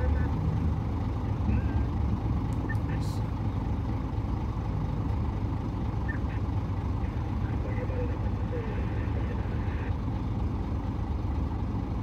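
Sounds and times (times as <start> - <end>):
heavy diesel engines rumbling: 0.0 - 12.0.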